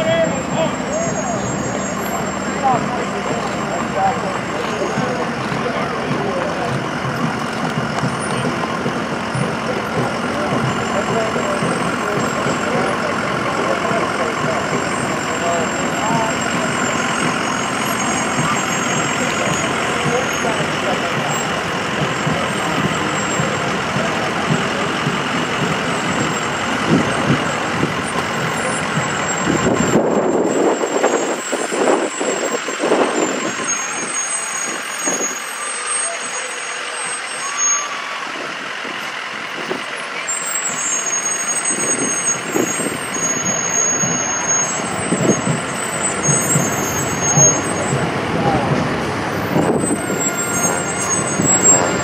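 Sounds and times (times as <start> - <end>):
fire truck engine rumble: 0.0 - 52.0
street background noise: 0.0 - 52.0.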